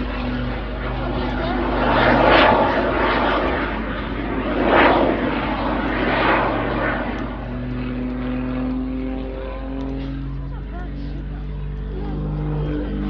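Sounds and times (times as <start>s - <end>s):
aircraft engines surging: 0.0s - 13.0s.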